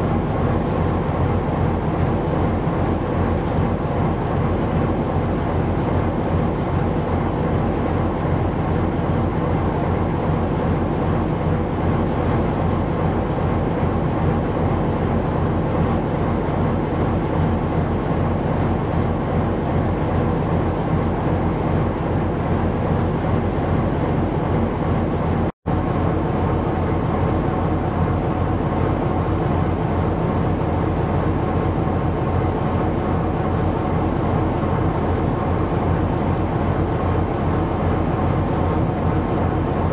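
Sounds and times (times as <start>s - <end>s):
ship engine drone: 0.0s - 39.9s.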